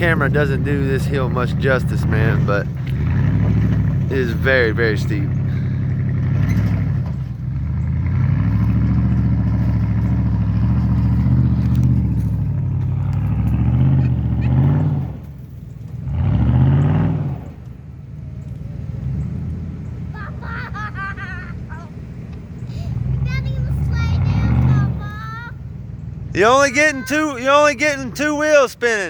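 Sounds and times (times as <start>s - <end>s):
pickup truck engine revving: 0.0s - 29.0s.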